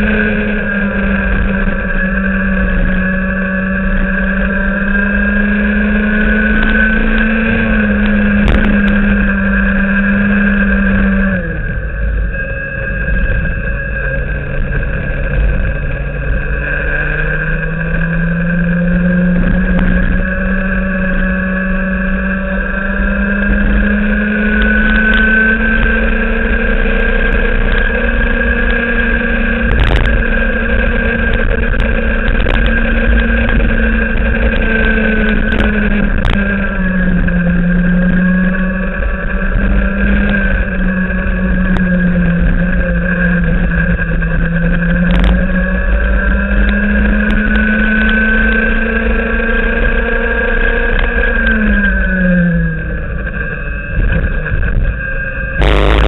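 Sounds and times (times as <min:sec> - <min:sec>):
kart engine accelerating: 0:00.0 - 0:56.0
wind rumble on microphone: 0:00.0 - 0:56.0.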